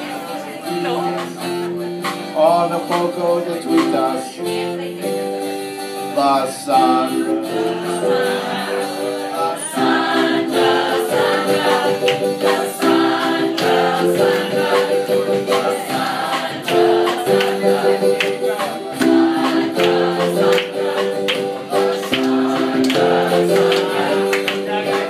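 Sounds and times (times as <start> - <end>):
group singing in chorus: 0.0 - 5.8, 6.8 - 25.0
strummed acoustic guitar: 0.0 - 25.0.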